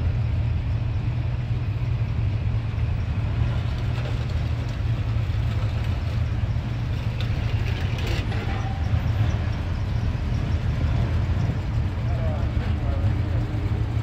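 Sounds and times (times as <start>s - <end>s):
car engines rumbling low: 0.0s - 14.0s.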